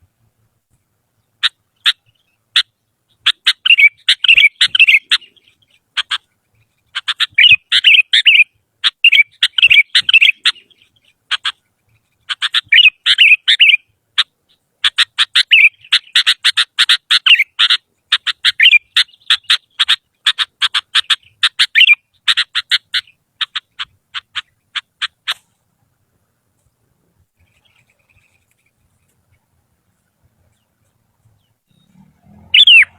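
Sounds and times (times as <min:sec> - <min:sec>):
bird singing: 0:01.1 - 0:24.7, 0:26.8 - 0:32.9.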